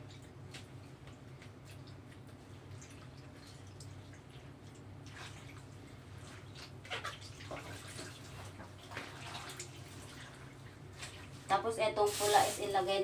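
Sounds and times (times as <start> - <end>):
water sloshing and splashing: 0.0 - 12.9.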